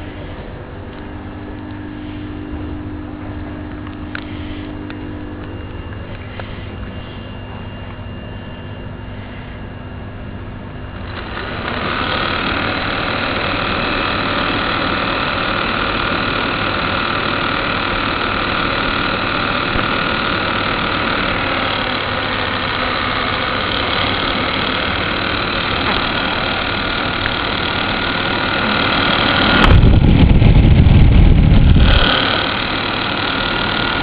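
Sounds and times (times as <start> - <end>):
air conditioner humming: 0.0 - 34.0.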